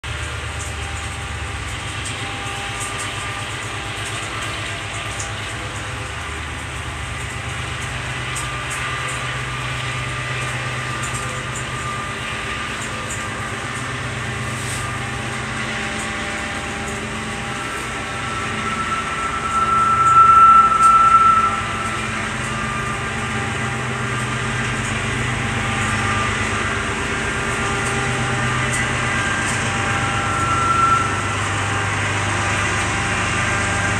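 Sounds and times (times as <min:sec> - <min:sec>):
train rumbling on track: 0:00.0 - 0:33.9
high steady squeal: 0:02.0 - 0:33.9.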